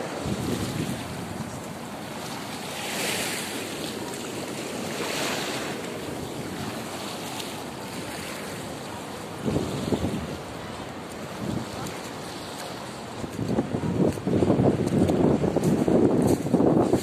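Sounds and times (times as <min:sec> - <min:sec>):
sea water washing over reef: 0:00.0 - 0:17.0
wind buffeting microphone: 0:00.0 - 0:17.0.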